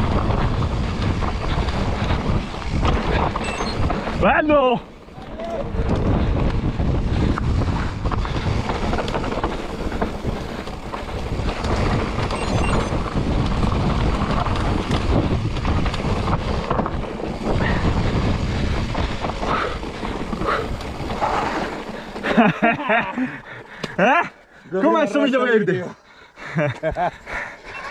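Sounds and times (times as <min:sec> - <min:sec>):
wind buffeting microphone: 0:00.0 - 0:23.5
mountain bike rumbling and rattling: 0:00.0 - 0:24.9.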